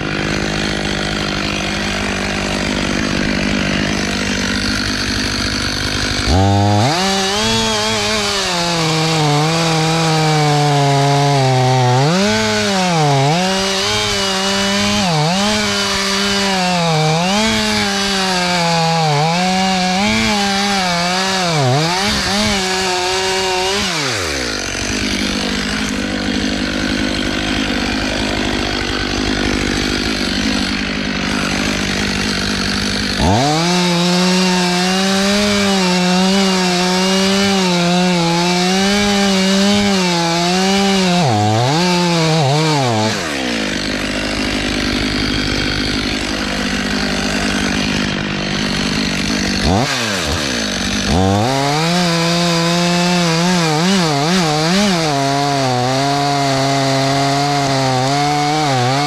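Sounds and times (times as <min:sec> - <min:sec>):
chainsaw running at high revs: 0:00.0 - 0:59.0.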